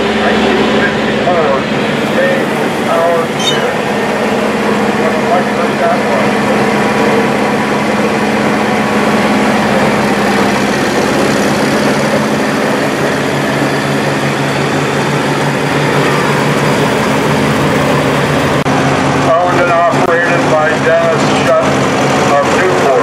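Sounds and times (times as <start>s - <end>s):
combine harvester engine running: 0.0s - 23.0s.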